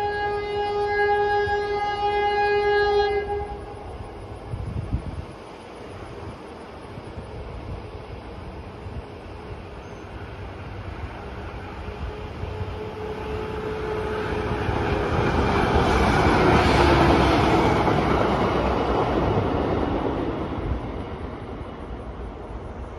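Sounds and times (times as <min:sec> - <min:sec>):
railcar passing on rails: 0:00.0 - 0:22.9.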